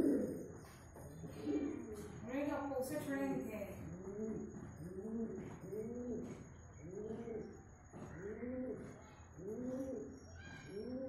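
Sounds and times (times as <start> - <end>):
pigeon cooing: 0.0 - 2.3, 3.8 - 11.0.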